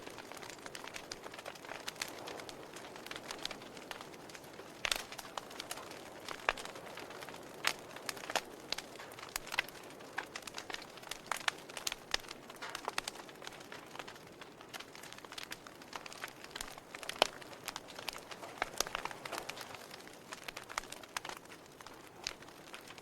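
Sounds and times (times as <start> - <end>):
sharp pops and snaps: 0.0 - 23.0
wood fire crackling: 0.0 - 23.0.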